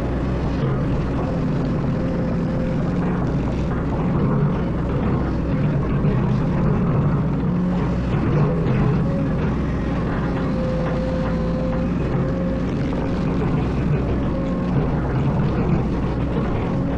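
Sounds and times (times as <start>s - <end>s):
excavator diesel engine droning: 0.0s - 16.9s.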